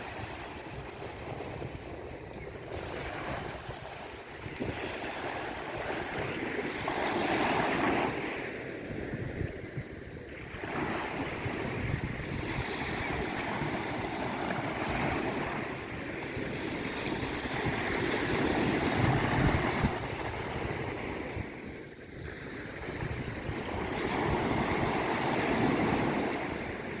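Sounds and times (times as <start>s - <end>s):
sea waves washing on shore: 0.0s - 27.0s.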